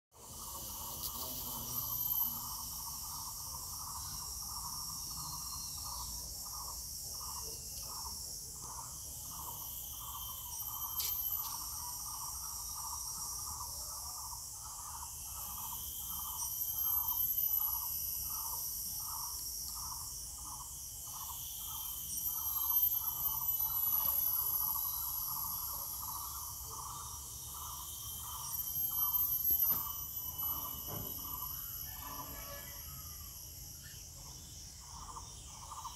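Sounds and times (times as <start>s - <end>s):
lower pulsing insect call: 0.1s - 35.9s
insects trilling high: 0.2s - 35.9s.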